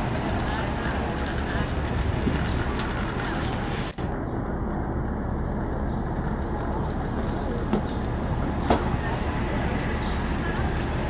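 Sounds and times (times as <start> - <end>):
bus engine low rumble: 0.0 - 11.0.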